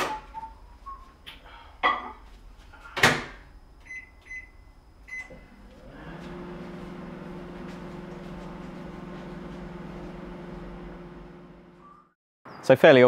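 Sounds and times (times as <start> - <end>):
microwave oven humming: 0.0 - 12.2.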